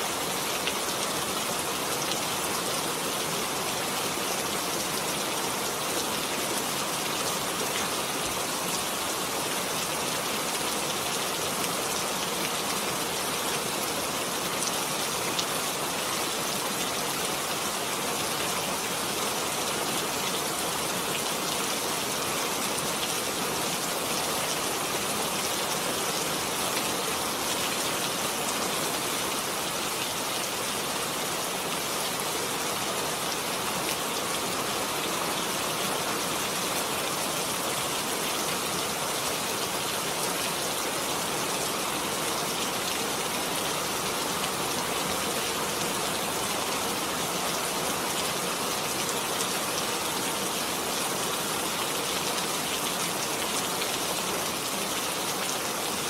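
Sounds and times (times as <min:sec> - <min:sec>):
heavy rain on hard surfaces: 0:00.0 - 0:56.0.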